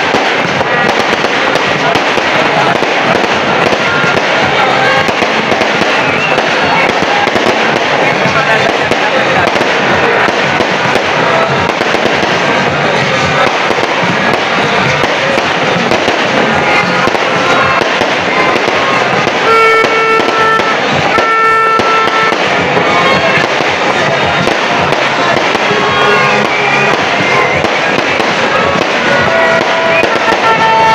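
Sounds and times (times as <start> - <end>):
fireworks crackling and popping: 0.0 - 30.9.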